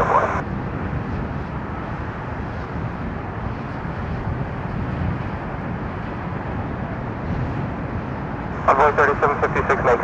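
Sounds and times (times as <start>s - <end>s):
jet engines rumbling: 0.0s - 10.0s.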